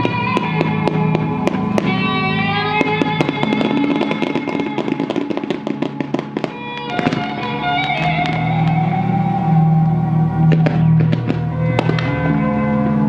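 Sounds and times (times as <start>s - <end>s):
firework bang: 0.0s - 9.1s, 10.5s - 12.4s
fireworks crackling pops: 0.0s - 12.4s
music soundtrack: 0.0s - 13.0s.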